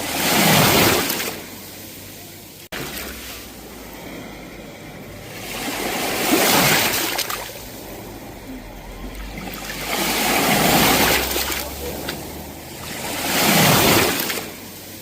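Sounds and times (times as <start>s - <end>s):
sea waves on shore: 0.0s - 15.0s.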